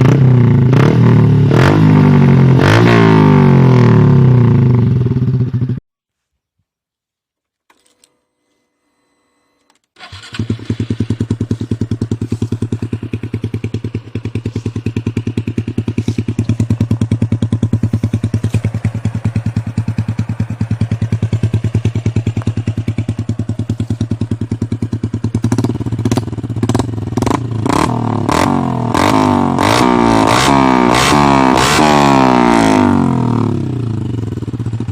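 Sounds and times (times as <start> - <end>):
motorcycle engine starting and revving: 0.0 - 5.8, 9.9 - 34.9.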